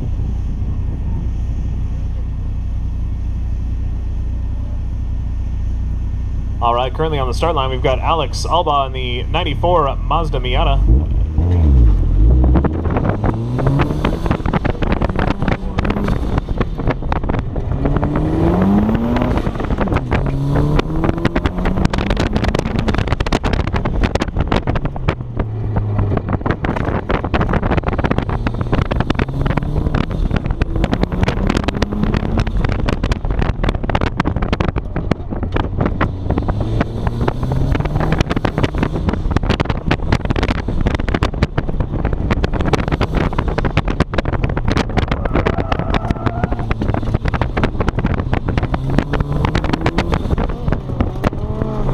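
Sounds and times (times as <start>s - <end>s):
car engine accelerating: 0.0s - 51.9s
wind rumble on microphone: 6.6s - 51.9s.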